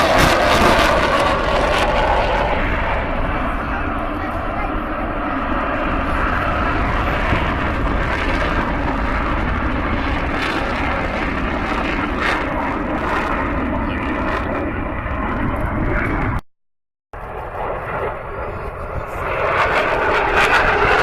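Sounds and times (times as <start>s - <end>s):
plane flying over: 0.0s - 16.4s, 17.2s - 21.0s.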